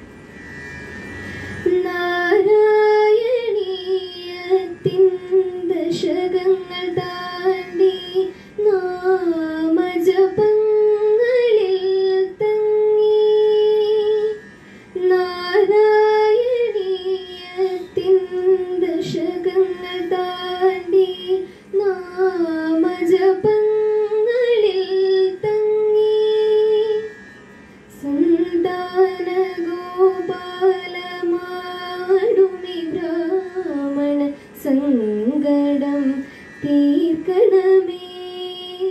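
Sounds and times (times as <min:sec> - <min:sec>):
woman singing into a microphone: 0:01.6 - 0:27.2, 0:27.9 - 0:38.9.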